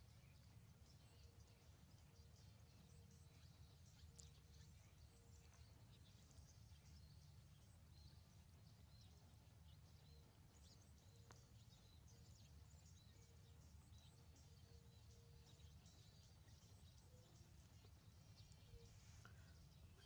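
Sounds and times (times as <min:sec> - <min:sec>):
faint high chirping calls: 0:00.0 - 0:20.0.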